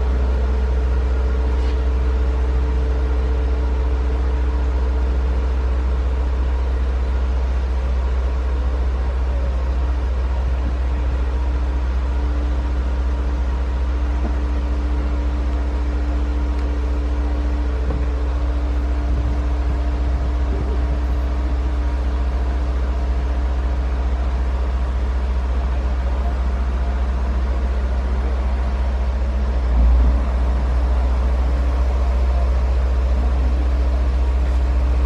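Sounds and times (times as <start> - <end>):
crane diesel engine rumbling: 0.0 - 35.0.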